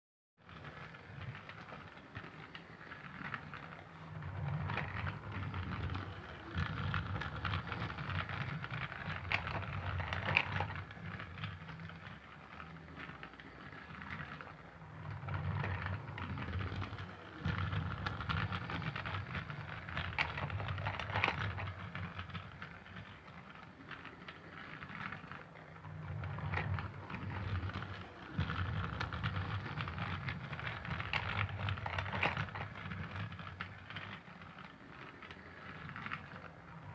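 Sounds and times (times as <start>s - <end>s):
toy train wheels clattering on track: 0.4s - 36.9s
toy train motor humming: 0.5s - 36.9s.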